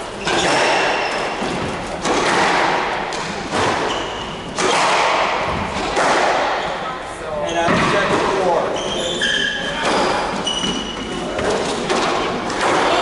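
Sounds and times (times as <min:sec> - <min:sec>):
squash ball impacts echoing: 0:00.0 - 0:13.0.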